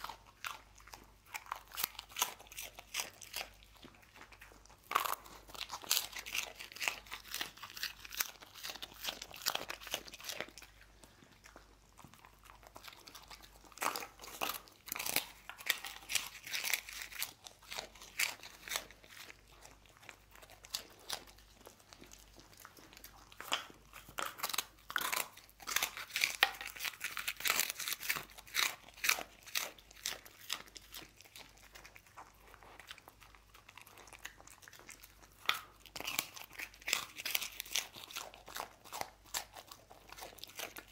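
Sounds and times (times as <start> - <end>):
dog crunching rice biscuits: 0.0 - 40.9.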